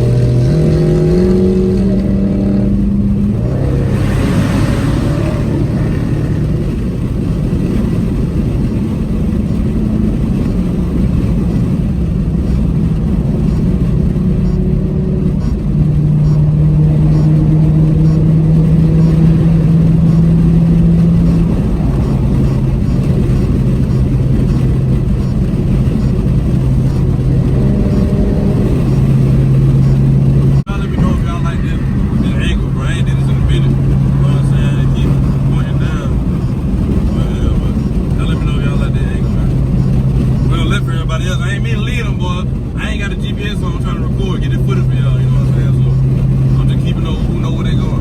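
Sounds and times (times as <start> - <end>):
car engine droning: 0.0 - 48.0.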